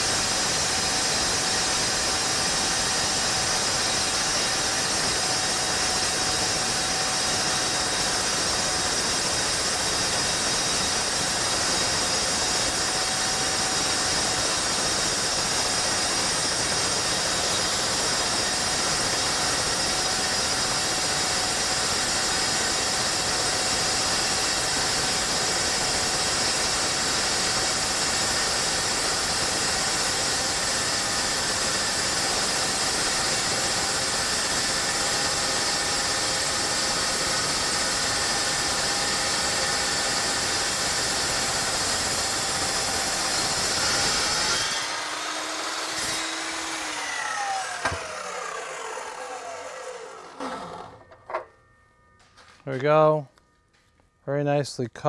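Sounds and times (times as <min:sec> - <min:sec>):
chop saw cutting steel: 0:00.0 - 0:51.6.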